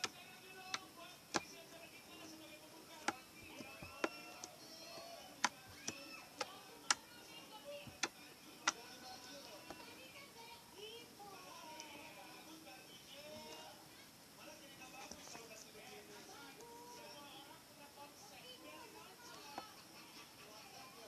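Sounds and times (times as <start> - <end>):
faint background hum: 0.0 - 21.0.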